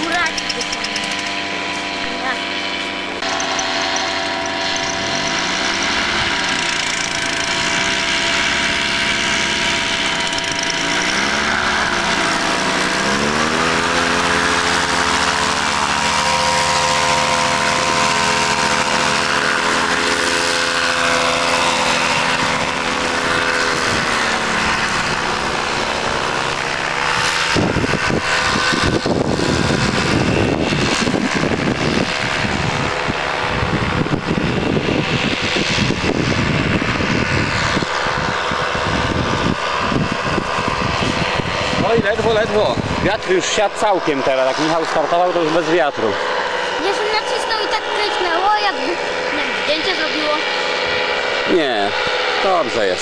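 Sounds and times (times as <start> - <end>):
paramotor engine and propeller: 0.0 - 53.0
rough rumbling noise: 0.0 - 53.0.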